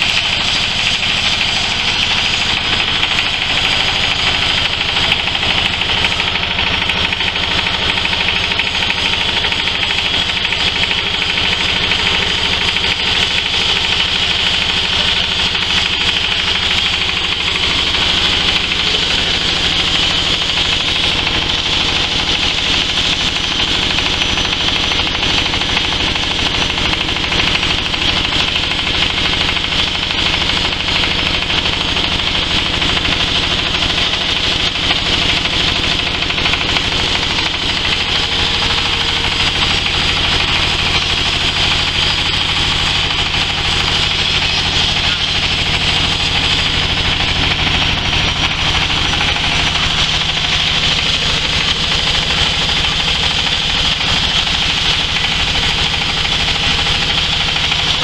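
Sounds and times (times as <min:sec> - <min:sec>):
hammer mill rattling whir: 0:00.0 - 0:58.0.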